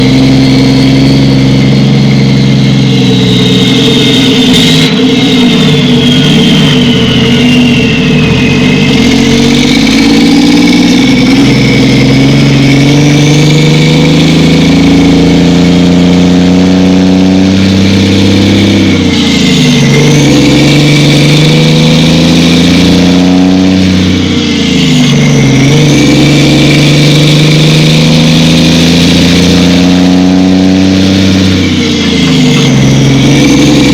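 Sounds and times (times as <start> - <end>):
truck engine under load: 0.0 - 33.9.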